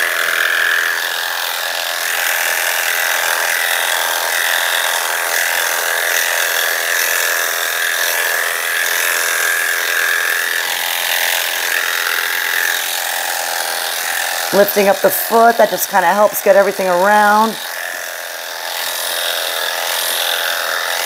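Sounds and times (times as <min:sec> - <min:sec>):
electric clipper humming: 0:00.0 - 0:21.0.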